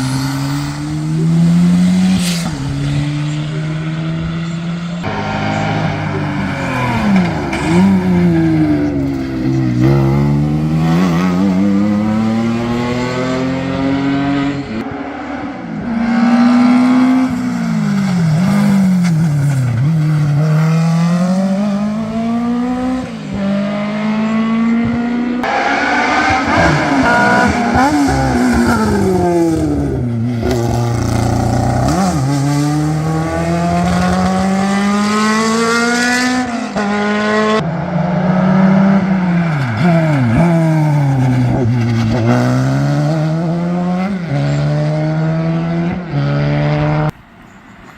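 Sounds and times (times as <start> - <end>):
racing car engines revving: 0.0 - 47.2.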